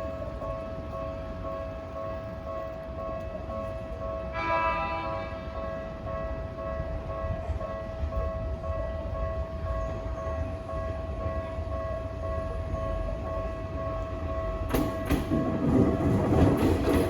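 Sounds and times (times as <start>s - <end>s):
level-crossing warning bell: 0.0s - 17.0s
train passing: 0.0s - 17.0s.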